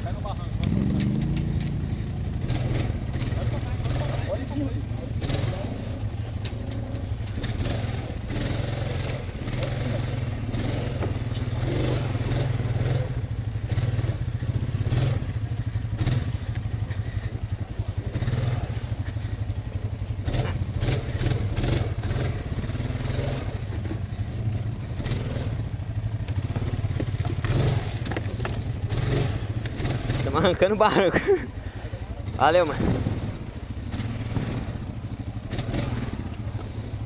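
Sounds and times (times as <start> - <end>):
quad bike engine under load: 0.0 - 37.0.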